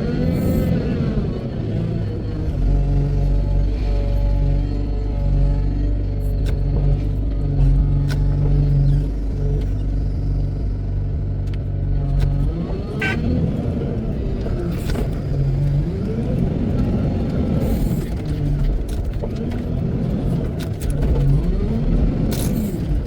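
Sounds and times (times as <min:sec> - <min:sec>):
diesel engine idling and revving: 0:00.0 - 0:23.0.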